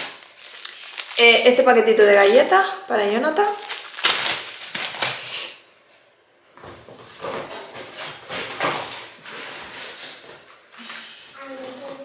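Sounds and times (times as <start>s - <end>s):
grocery bags rustling and crinkling: 0.0s - 5.6s, 6.7s - 10.7s.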